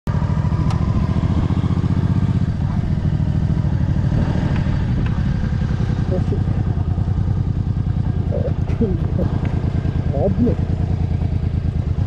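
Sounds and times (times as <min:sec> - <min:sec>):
motorcycle engine throbbing: 0:00.1 - 0:12.0.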